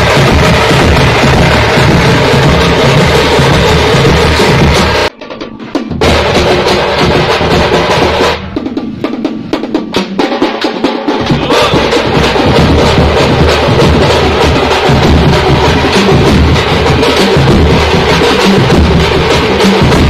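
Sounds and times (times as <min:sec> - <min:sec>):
stick-beaten barrel drums: 0:00.0 - 0:20.0.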